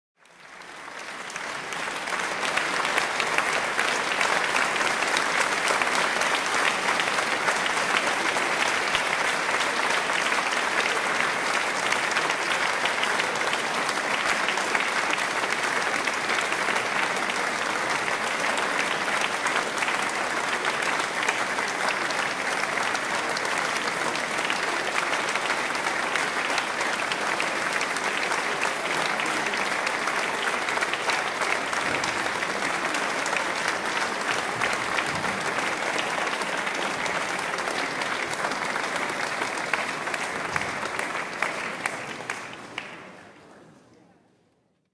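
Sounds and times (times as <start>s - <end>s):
audience applauding: 0.2s - 43.5s.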